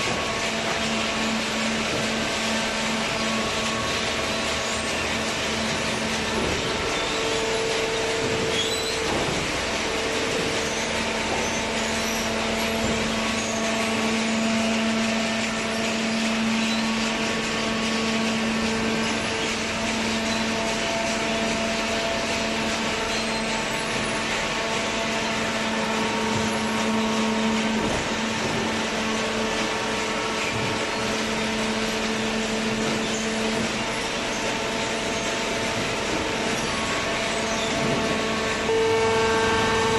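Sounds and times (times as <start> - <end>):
cardboard baler humming: 0.0 - 39.9.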